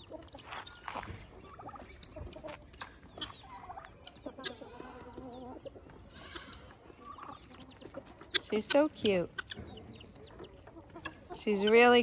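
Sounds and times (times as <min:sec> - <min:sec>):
chickens and turkeys clucking: 0:00.0 - 0:12.0.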